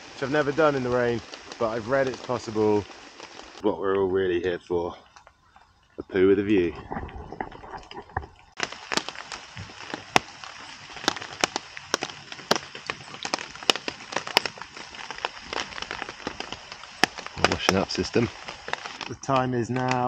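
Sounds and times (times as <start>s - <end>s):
rain hissing: 0.0s - 20.0s.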